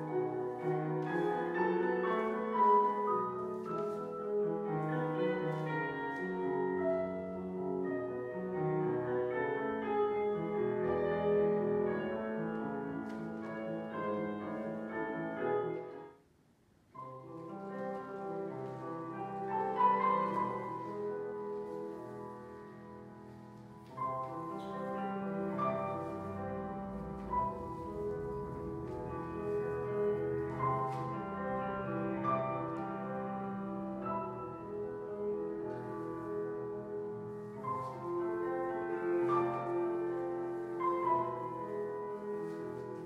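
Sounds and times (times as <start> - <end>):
classical piano music: 0.0 - 43.0.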